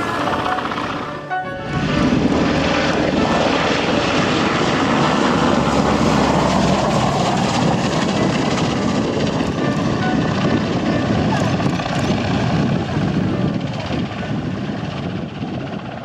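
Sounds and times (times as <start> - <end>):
aircraft flying overhead: 0.0 - 16.0.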